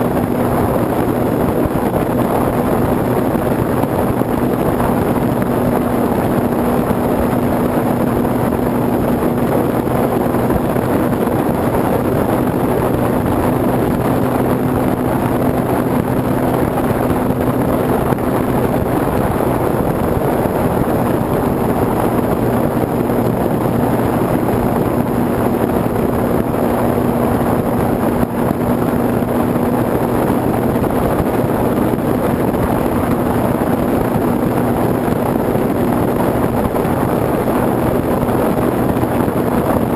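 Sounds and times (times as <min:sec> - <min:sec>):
electric motor and propeller hum: 0:00.0 - 0:39.9
wind rush over microphone: 0:00.0 - 0:39.9.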